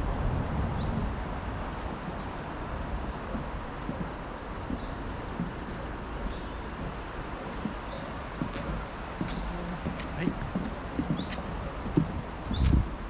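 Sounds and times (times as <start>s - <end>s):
rushing outdoor noise: 0.0s - 13.0s
footsteps on trail path: 0.1s - 13.0s.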